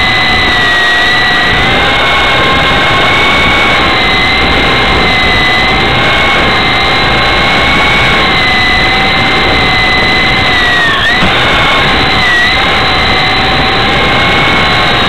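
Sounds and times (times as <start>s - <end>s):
helicopter motors whining: 0.0s - 15.0s
rotor blades rushing: 0.0s - 15.0s.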